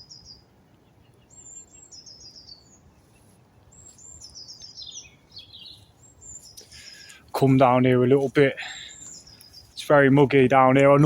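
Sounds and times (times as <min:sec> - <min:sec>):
small songbird singing faintly: 0:00.0 - 0:11.0.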